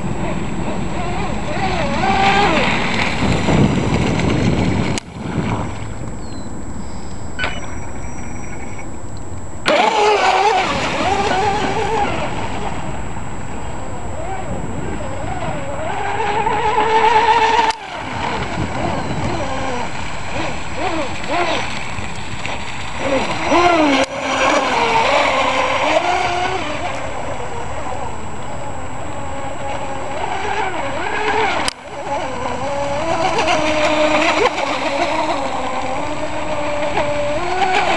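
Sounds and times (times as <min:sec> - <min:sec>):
model boat motor whining: 0:00.0 - 0:37.9.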